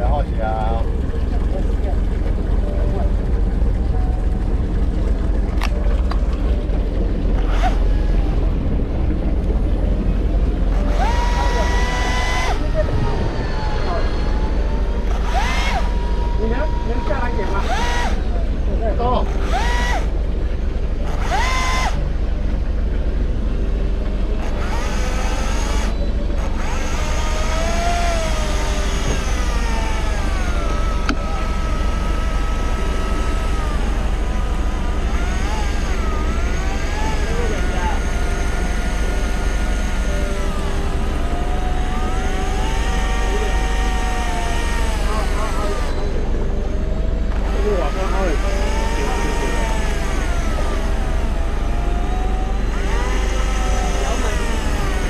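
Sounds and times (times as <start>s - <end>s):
boat engine rumbling: 0.0s - 55.0s
whine: 0.0s - 55.0s.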